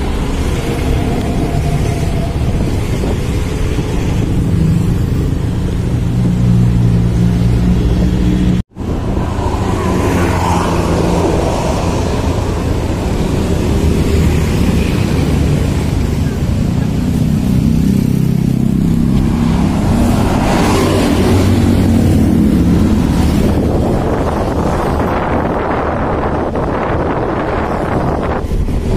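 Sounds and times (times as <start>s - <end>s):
wind and road noise: 0.0s - 28.9s.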